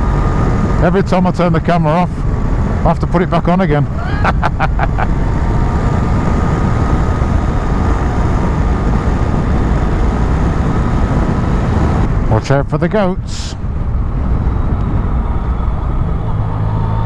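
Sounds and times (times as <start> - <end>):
faint steady whine: 0.0 - 17.0
motorcycle riding: 0.0 - 17.0.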